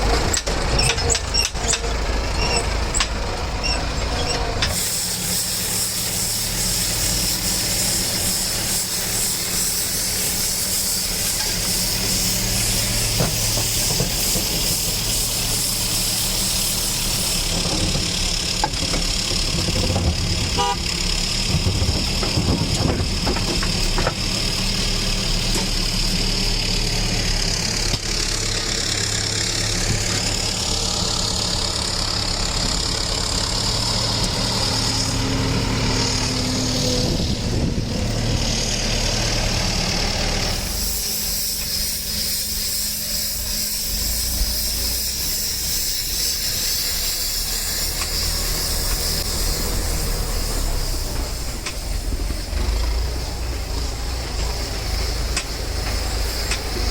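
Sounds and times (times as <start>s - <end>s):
field machinery: 0.0s - 56.9s
tractor engine running: 0.0s - 56.9s.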